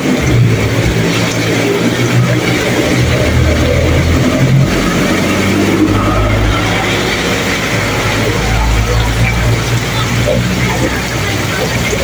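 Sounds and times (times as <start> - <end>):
heavy rain: 0.0 - 12.0
truck engine running: 0.0 - 12.0.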